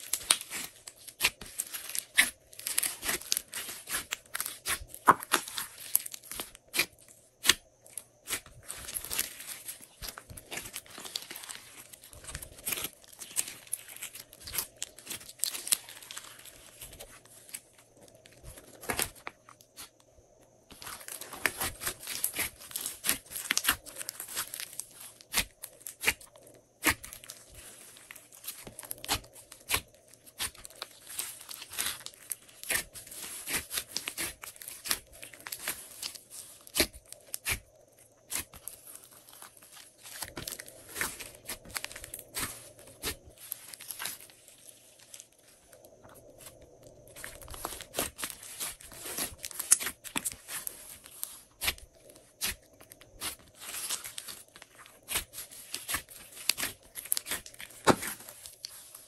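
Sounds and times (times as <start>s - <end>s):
slime crackling in plastic bags: 0.0s - 59.0s.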